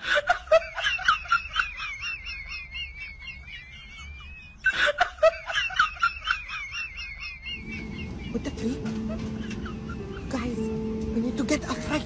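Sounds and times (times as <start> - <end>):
high-pitched cackling laugh: 0.0 - 10.3.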